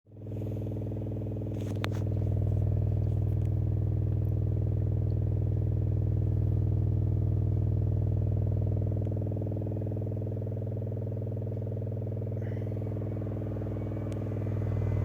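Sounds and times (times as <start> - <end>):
subwoofer bass tone: 0.1 - 15.0.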